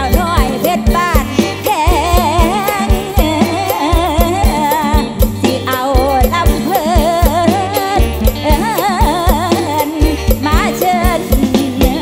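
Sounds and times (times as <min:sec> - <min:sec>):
bass line: 0:00.0 - 0:12.0
live band playing: 0:00.0 - 0:12.0
woman singing into microphone: 0:00.0 - 0:12.0.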